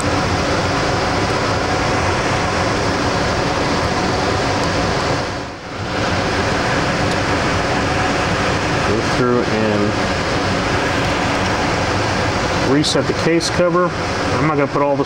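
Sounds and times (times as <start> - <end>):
air handling rushing noise: 0.0 - 14.4.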